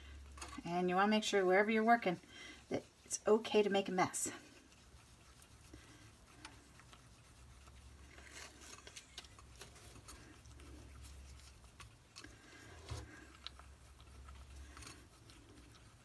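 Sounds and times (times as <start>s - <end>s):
low steady hum: 0.0s - 16.0s
stick stirring thick paste: 0.0s - 16.0s.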